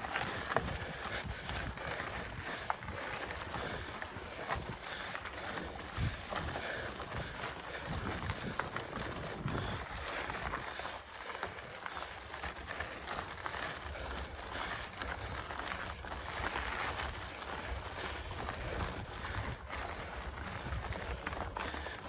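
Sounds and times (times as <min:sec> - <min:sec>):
bike tyres on dirt: 0:00.0 - 0:22.0
bike clicks and rattles: 0:00.1 - 0:22.0.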